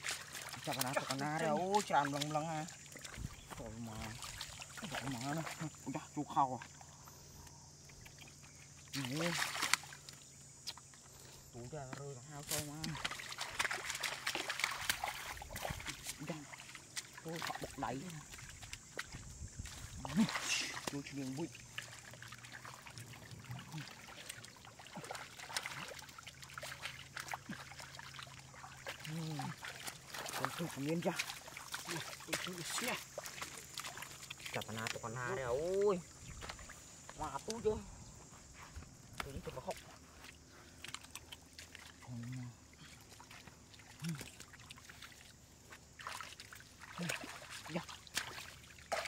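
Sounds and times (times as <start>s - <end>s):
water dripping: 0.0s - 37.8s, 39.0s - 49.0s
water trickling and splashing: 0.0s - 49.0s.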